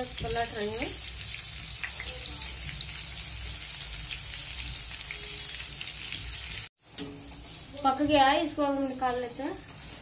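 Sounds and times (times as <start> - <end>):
food deep-frying in oil: 0.0 - 10.0
small crackles of frying: 0.0 - 10.0.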